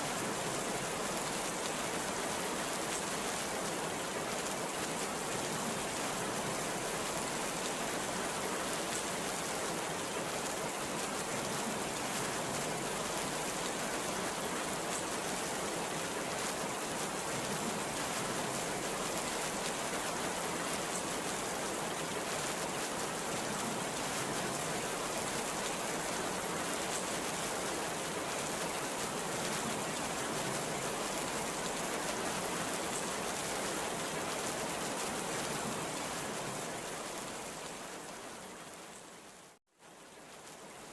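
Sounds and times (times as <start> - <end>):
heavy rain pouring: 0.0 - 38.7.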